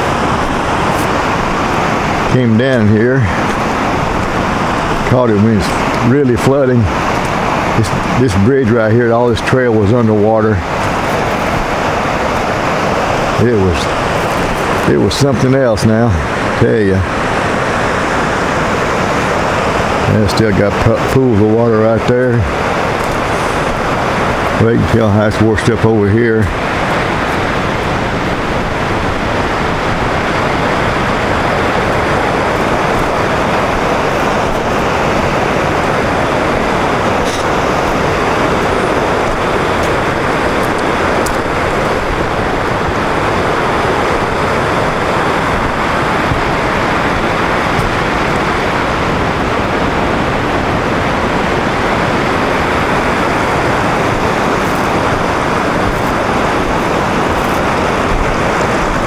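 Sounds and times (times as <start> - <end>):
river rushing through rapids: 0.0 - 59.0.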